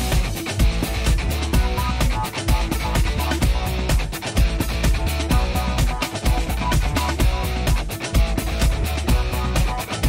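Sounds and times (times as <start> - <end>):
electric guitar: 0.0 - 10.0
steady drum beat: 0.0 - 10.0.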